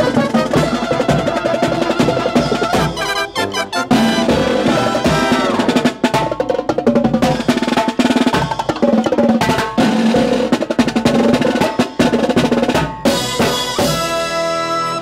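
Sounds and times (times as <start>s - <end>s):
marching brass band playing: 0.0s - 8.5s, 9.4s - 15.0s
snare and tenor drum strokes: 0.0s - 15.0s.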